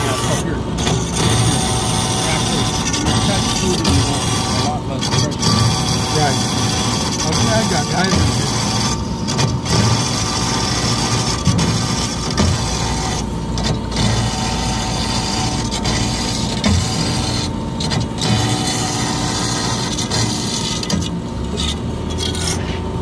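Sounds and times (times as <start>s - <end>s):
band saw cutting metal: 0.0s - 23.0s.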